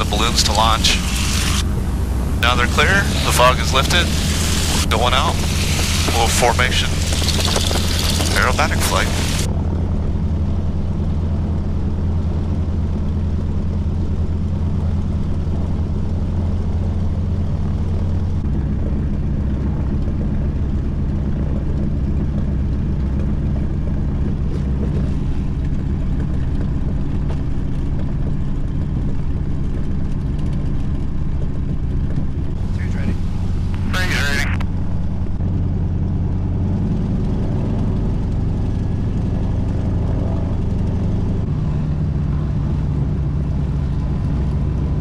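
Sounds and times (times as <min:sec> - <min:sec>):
radial aircraft engine droning: 0:00.0 - 0:45.0.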